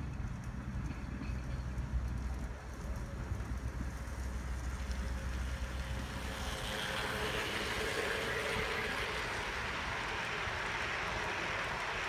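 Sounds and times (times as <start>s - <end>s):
model train wheels on rail: 0.0s - 12.0s.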